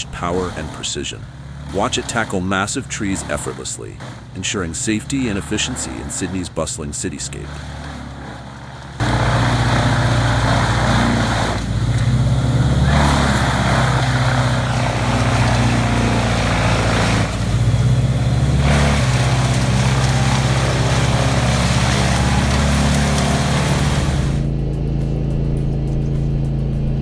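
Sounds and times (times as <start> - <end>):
brush chipper engine running: 0.0 - 24.5.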